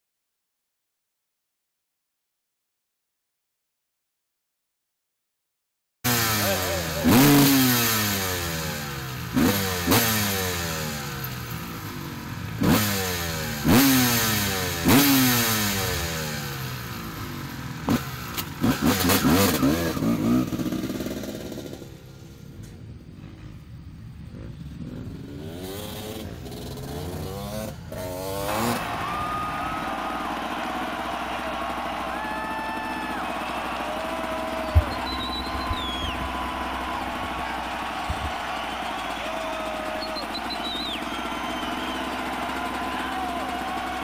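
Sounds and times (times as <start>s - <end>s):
motocross bike engines revving: 6.1s - 44.0s.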